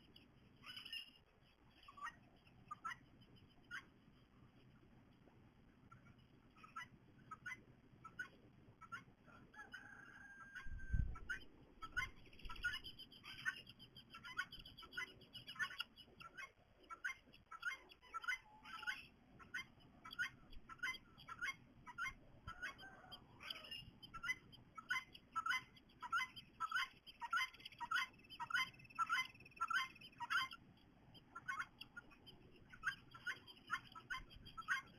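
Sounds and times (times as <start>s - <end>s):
bird chirping: 0.0s - 5.2s, 5.9s - 34.9s.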